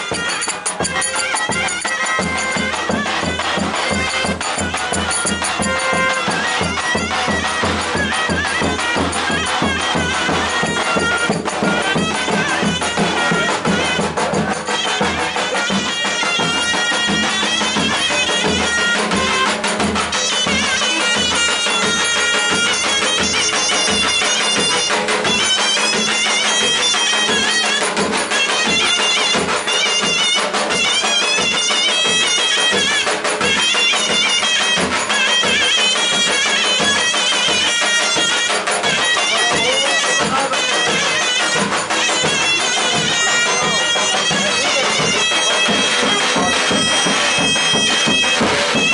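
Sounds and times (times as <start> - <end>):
drum beat: 0.0 - 48.9
shrill reed instrument melody: 0.0 - 48.9.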